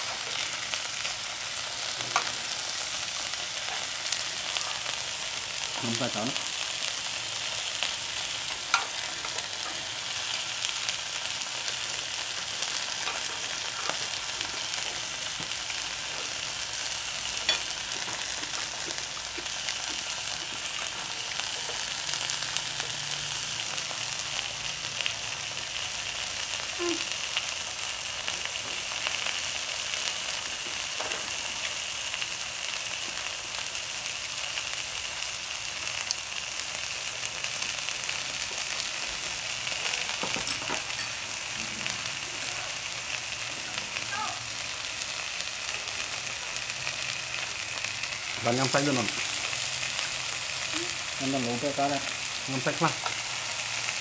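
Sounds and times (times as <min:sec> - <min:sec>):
beef sizzling on grill pan: 0:00.0 - 0:54.0.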